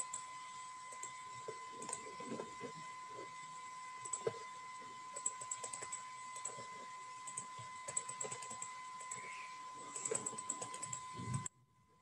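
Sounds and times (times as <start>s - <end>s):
faint electrical tone: 0.0s - 12.0s.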